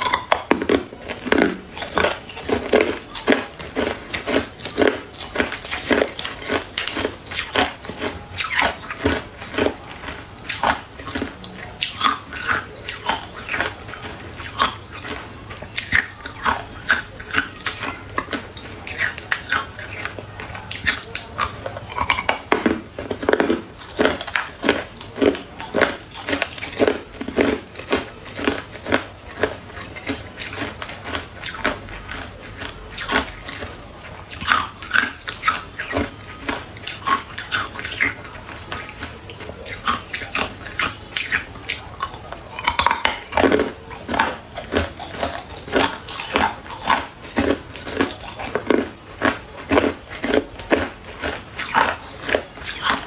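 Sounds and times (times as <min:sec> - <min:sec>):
ice cubes crunching: 0:00.0 - 0:53.0.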